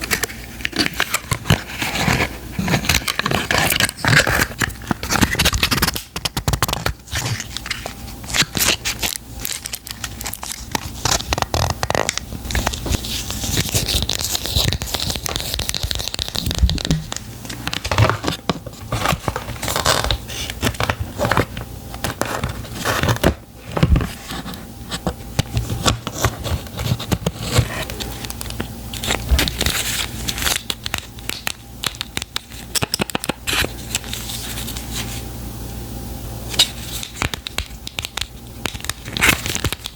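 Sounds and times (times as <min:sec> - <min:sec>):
packaging crinkling and tearing: 0:00.0 - 0:24.5, 0:25.4 - 0:35.1, 0:36.5 - 0:39.9.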